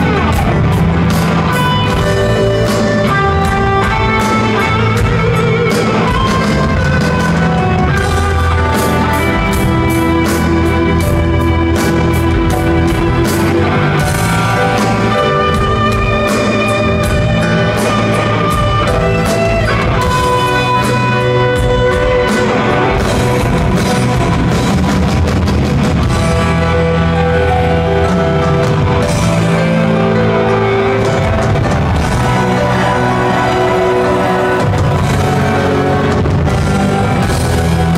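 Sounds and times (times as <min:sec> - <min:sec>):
electric guitars: 0:00.0 - 0:37.9
keyboards holding melodic notes: 0:00.0 - 0:37.9.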